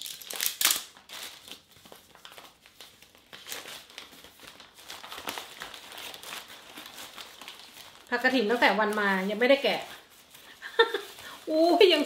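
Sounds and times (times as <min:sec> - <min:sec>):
newspaper and plastic bag crinkling: 0:00.0 - 0:12.0.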